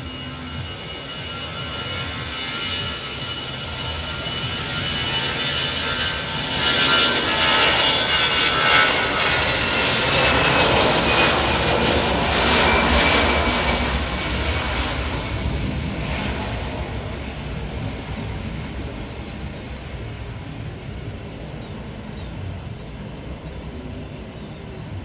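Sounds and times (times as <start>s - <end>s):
jet engines passing by: 0.0s - 25.0s.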